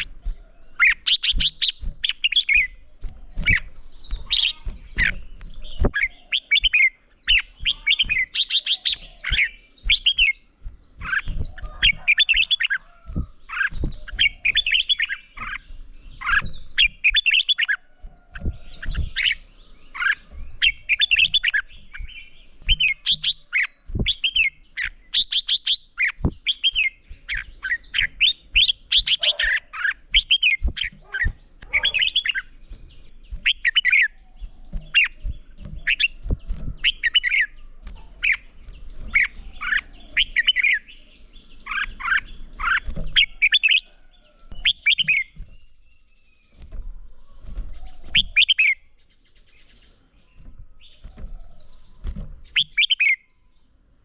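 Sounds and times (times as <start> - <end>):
bird song warbled phrases: 0.0 - 54.0.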